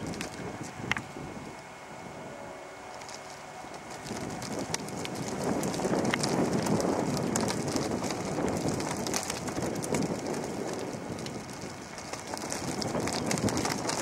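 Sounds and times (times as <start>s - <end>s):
faint crackles and clicks: 0.0s - 1.7s, 2.8s - 14.0s
wind buffeting microphone: 0.0s - 14.0s.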